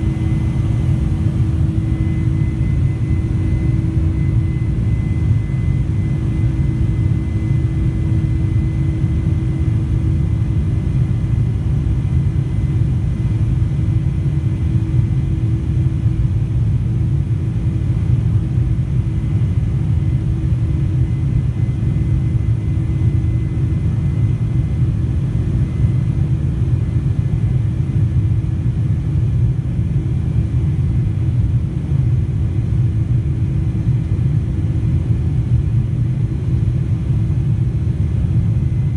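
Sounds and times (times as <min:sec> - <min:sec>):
airplane cabin rumble: 0:00.0 - 0:38.9
constant hum: 0:00.0 - 0:38.9.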